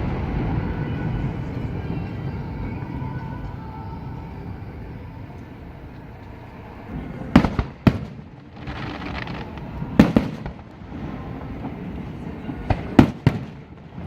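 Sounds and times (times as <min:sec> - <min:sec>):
fireworks bangs: 0:00.0 - 0:14.0
fireworks hiss: 0:00.0 - 0:14.0
low background rumble: 0:00.0 - 0:14.0.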